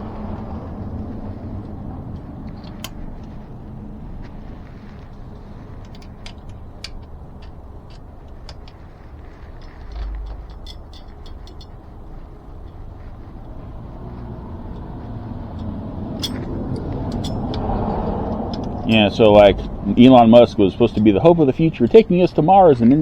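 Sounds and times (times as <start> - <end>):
steady low rumble: 0.0 - 23.0
small metal clicks and taps: 1.2 - 19.8.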